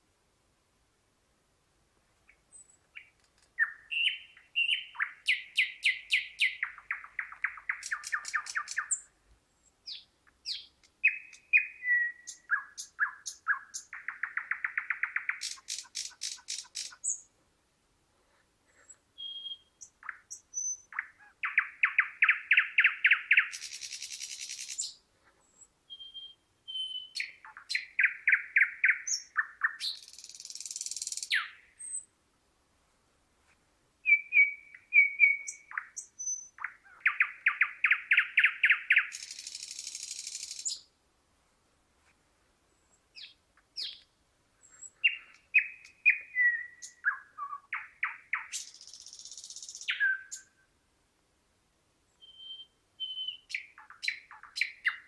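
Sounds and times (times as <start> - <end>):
thrush nightingale singing: 2.2 - 17.4, 18.8 - 32.1, 34.0 - 40.9, 42.7 - 50.7, 52.1 - 55.0.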